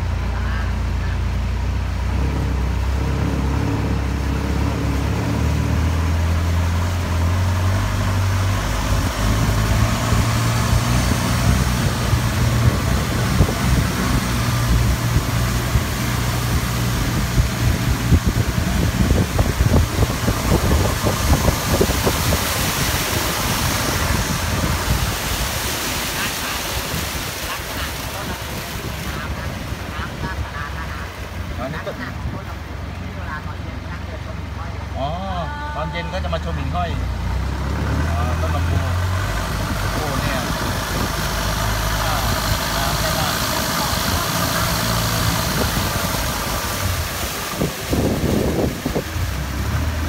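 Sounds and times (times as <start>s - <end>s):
boat engine running: 0.0s - 50.0s
wind and water noise: 0.0s - 50.0s.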